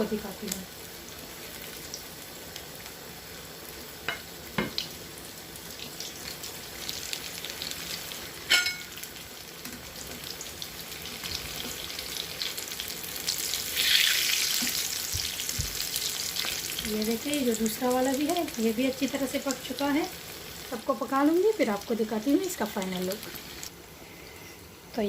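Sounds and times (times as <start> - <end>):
meat sizzling in hot oil: 0.0 - 23.7.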